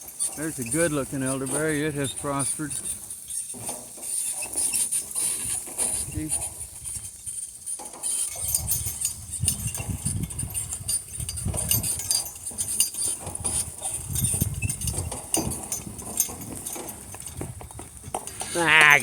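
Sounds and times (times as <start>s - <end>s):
harness fittings clinking: 0.0s - 19.0s.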